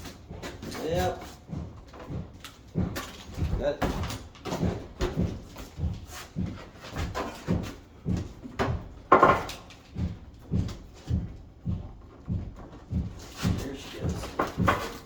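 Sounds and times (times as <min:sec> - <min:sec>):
dishwasher knocking and thumping: 0:00.0 - 0:15.0.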